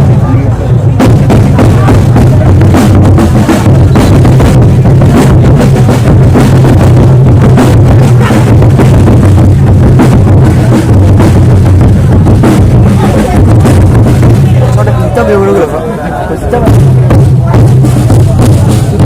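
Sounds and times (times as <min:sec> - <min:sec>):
bass drums beaten hard: 0:00.0 - 0:15.7, 0:16.5 - 0:19.0.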